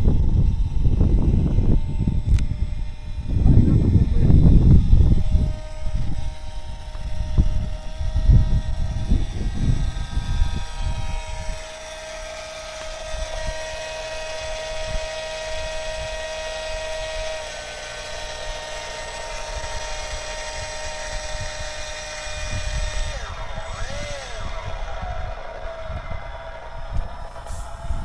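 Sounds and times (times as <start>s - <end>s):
model plane motor whining: 0.0s - 28.0s
wind rumbling on microphone: 0.0s - 28.0s.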